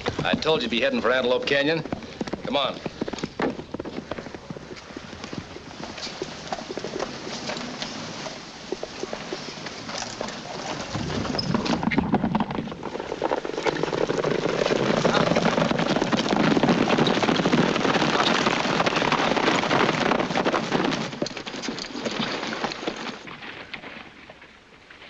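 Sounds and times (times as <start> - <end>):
horses galloping on dirt: 0.0 - 25.0.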